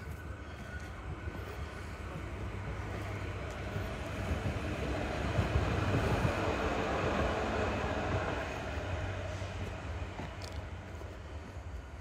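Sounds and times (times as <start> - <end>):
rail vehicle rumble: 0.0 - 12.0.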